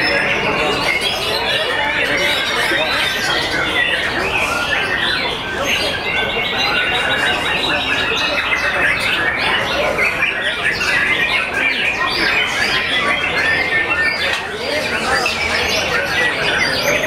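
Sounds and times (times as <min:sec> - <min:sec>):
chorus of birds singing: 0:00.0 - 0:17.0.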